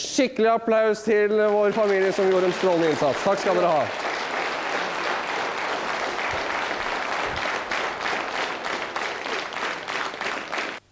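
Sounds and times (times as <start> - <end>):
studio audience applauding: 1.3 - 10.8.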